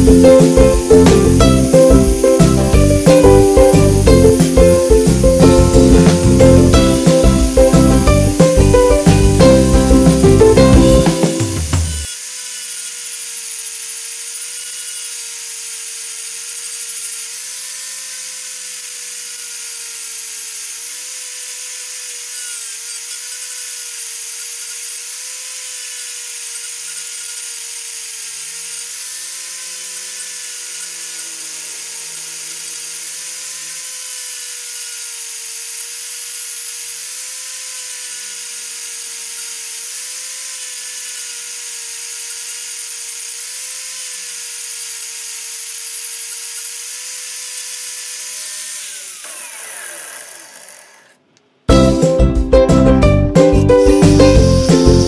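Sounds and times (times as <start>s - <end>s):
angle grinder grinding: 0.0s - 55.0s.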